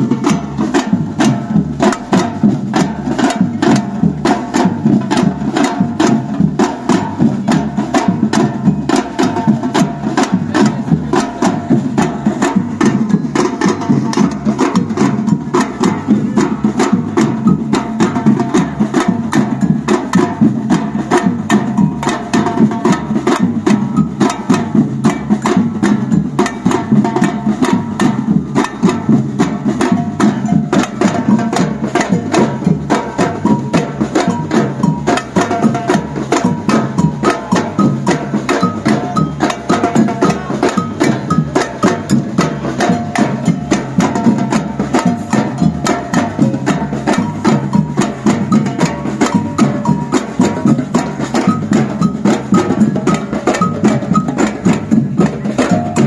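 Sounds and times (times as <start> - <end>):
percussion band drumming: 0.0 - 56.0.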